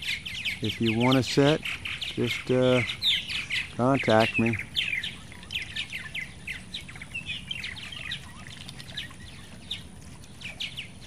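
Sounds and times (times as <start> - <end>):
birds chirping and chattering: 0.0 - 11.0.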